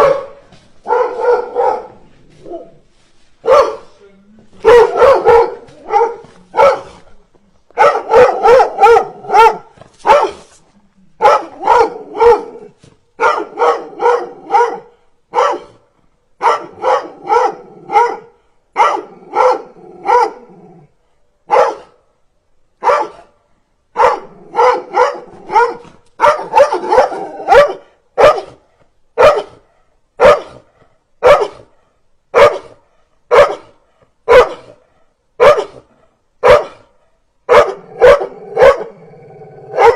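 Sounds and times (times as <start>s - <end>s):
dogs barking aggressively: 0.0s - 2.8s, 3.4s - 3.9s, 4.6s - 7.1s, 7.8s - 10.5s, 11.2s - 15.8s, 16.4s - 20.8s, 21.5s - 22.0s, 22.8s - 34.8s, 35.4s - 39.9s.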